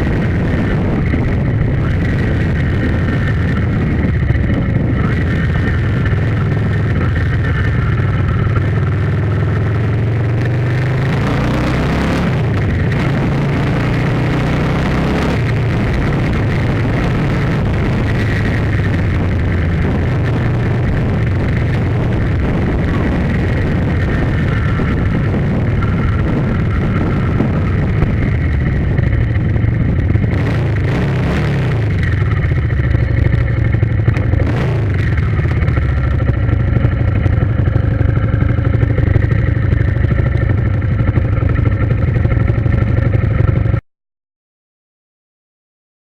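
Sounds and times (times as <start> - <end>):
engine running: 0.0 - 43.8.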